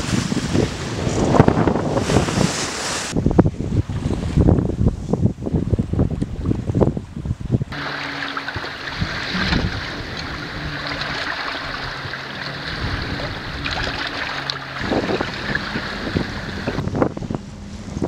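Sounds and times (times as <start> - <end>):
water splashing along boat bow: 0.0 - 18.0
wind buffeting microphone: 0.0 - 18.0.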